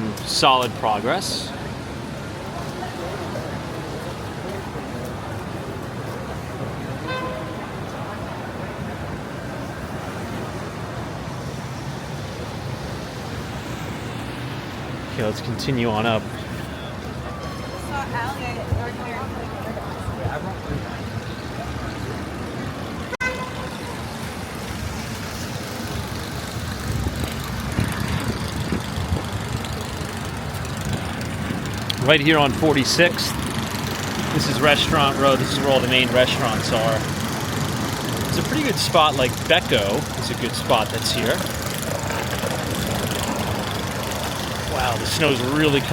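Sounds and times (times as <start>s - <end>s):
city street traffic rumble: 0.0s - 45.9s
road noise: 0.0s - 45.9s
vehicle engines running: 0.0s - 45.9s.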